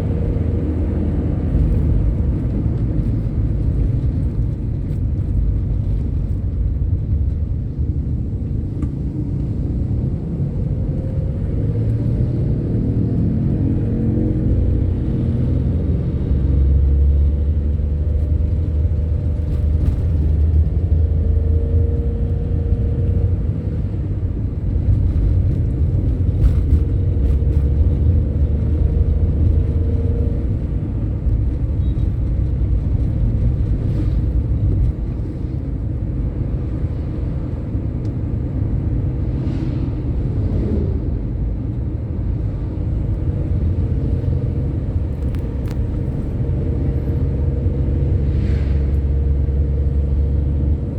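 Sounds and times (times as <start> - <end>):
vehicle engine and road rumble: 0.0 - 50.9.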